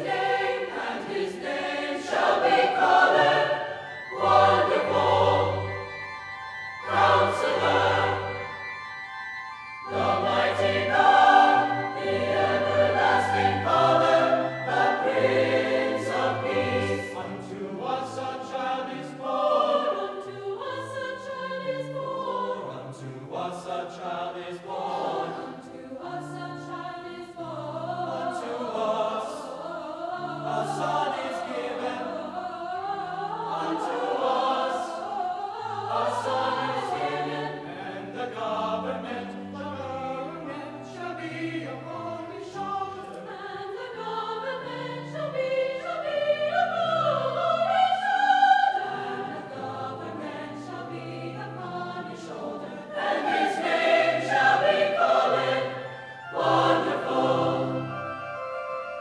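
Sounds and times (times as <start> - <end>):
mixed choir singing: 0.0 - 6.1, 6.8 - 8.7, 9.9 - 58.1.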